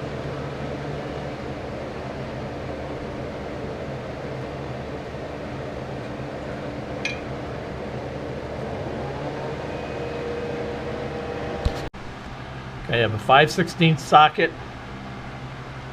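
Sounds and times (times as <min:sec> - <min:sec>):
mechanical hum and hiss: 0:00.0 - 0:15.9.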